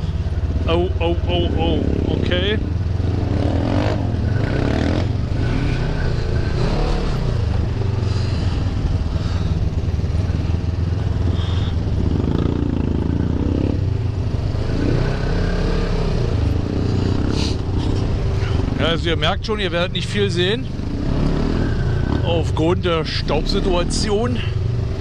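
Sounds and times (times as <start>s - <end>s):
buggy engine running: 0.0s - 25.0s.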